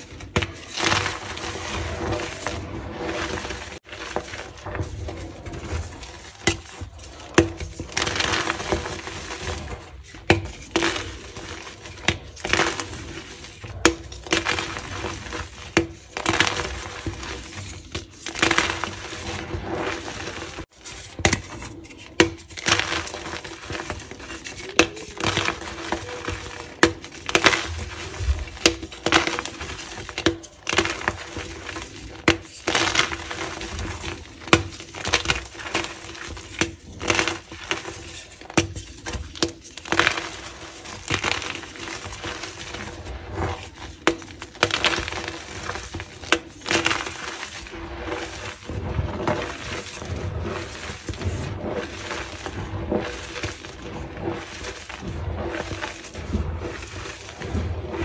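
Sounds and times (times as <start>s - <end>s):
chalk crunching and cracking: 0.0s - 58.0s.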